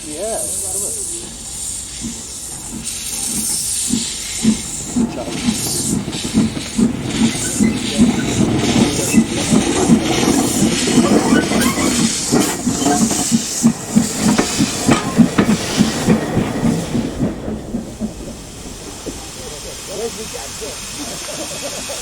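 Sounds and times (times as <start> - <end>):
hiss of steam: 0.0 - 22.0
steam locomotive pulsing: 0.0 - 22.0.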